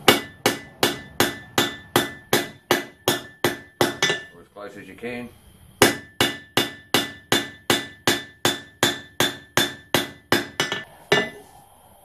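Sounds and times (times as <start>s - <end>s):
hammer striking steel on anvil: 0.0s - 4.4s, 5.8s - 11.4s.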